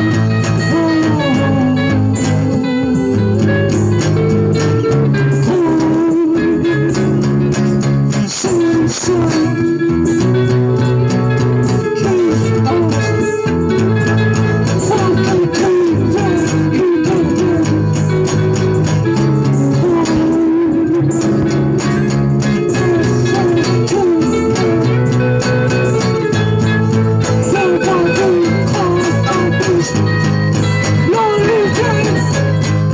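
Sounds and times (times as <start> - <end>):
guitar with bending sliding notes: 0.0 - 32.9.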